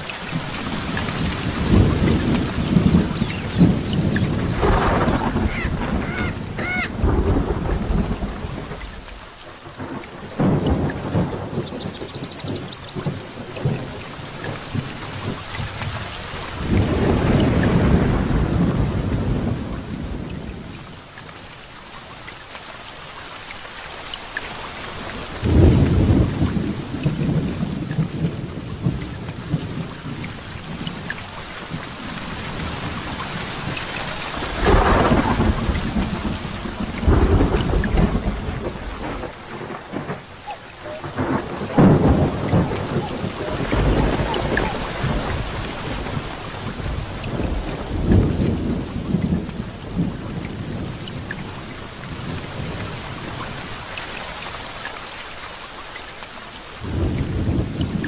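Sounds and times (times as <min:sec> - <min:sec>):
thunder rumbling: 0:00.0 - 0:20.7, 0:25.0 - 0:53.8, 0:56.8 - 0:58.0
steady rain falling: 0:00.0 - 0:58.0.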